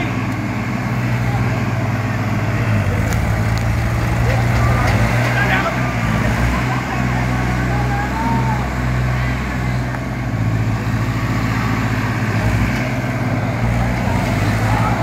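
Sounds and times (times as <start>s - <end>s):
tractor diesel engines running hard: 0.0s - 15.0s.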